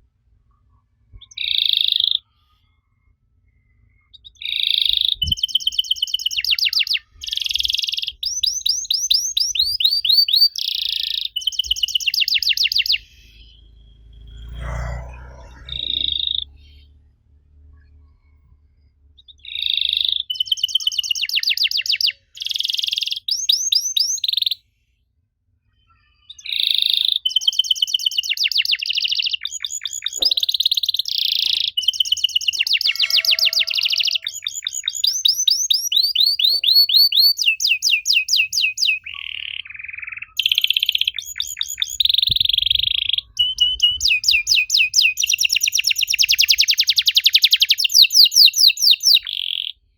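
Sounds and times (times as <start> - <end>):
canary singing: 1.2 - 2.3, 4.1 - 17.0, 19.0 - 24.6, 25.8 - 49.9.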